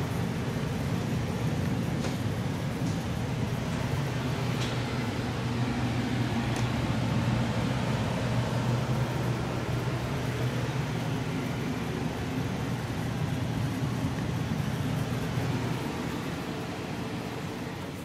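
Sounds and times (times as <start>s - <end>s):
furnace blower humming: 0.0s - 18.0s.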